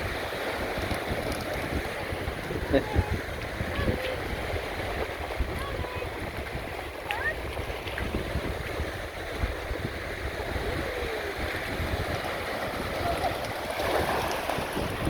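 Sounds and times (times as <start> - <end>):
small waves breaking on shore: 0.0 - 15.0
wind buffeting microphone: 0.0 - 15.0.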